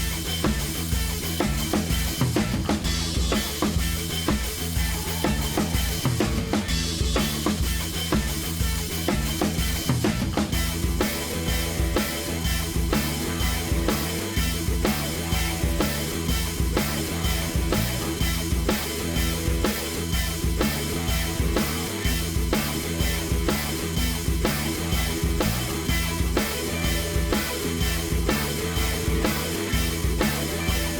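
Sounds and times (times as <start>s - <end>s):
music with drum beat and bass: 0.0s - 30.9s.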